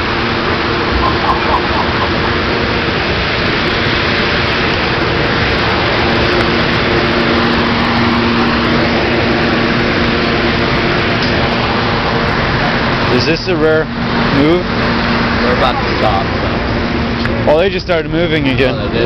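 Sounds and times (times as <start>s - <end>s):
constant low hum: 0.0s - 19.0s
loud mechanical drone: 0.0s - 19.0s.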